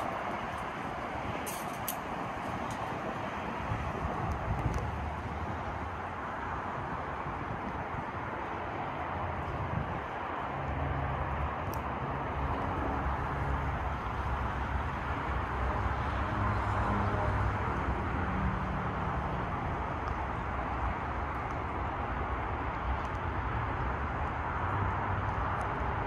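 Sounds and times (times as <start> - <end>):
distant traffic: 0.0 - 26.0.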